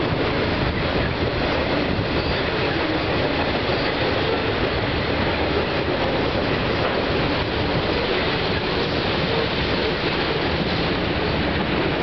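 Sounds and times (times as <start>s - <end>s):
freight cars rumbling over bridge: 0.0s - 12.0s.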